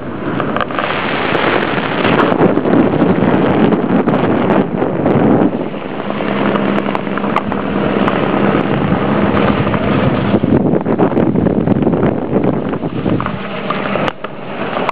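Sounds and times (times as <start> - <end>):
helicopter drone: 0.0 - 14.9
wind buffeting microphone: 0.0 - 14.9.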